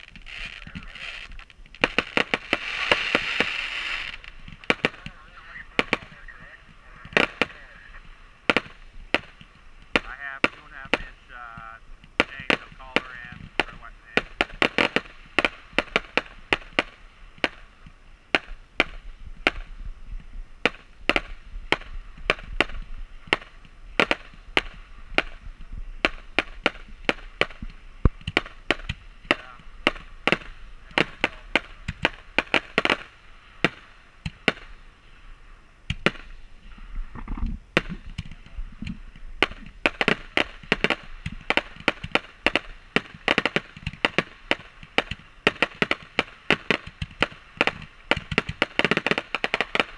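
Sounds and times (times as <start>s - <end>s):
firework bangs with echo: 0.0s - 19.8s, 20.6s - 35.2s, 35.8s - 36.9s, 37.7s - 49.9s.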